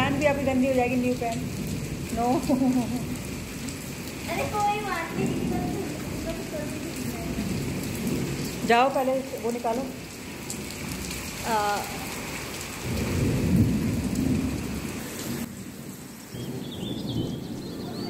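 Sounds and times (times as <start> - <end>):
heavy rain on pavement: 0.0 - 18.0
low rumble of thunder: 0.0 - 18.0.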